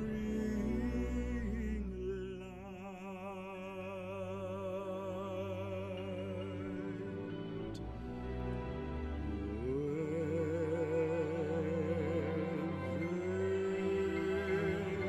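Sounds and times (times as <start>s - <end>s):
deep male voice singing: 0.0s - 7.2s, 9.3s - 15.0s
sombre string orchestra: 0.0s - 15.0s.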